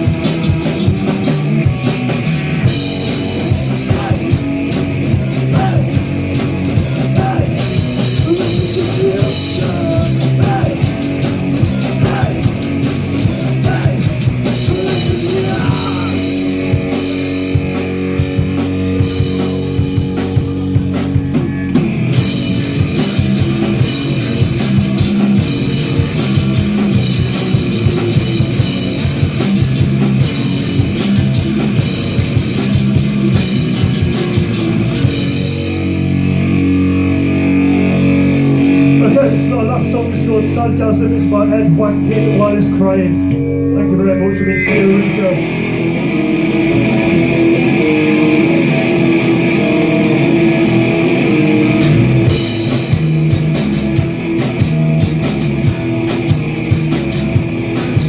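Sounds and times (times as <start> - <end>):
distorted electric guitar: 0.0 - 58.0
drum kit: 0.0 - 58.0
rock band playing: 0.0 - 58.0.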